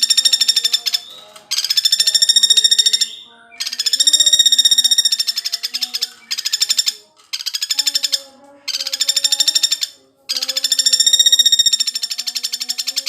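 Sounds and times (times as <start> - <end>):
woodpecker rattling trills: 0.0 - 13.0.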